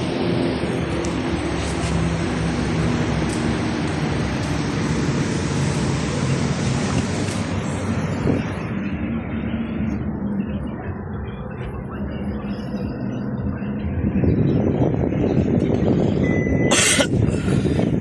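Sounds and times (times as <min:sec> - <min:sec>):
car engine running: 0:00.0 - 0:16.2.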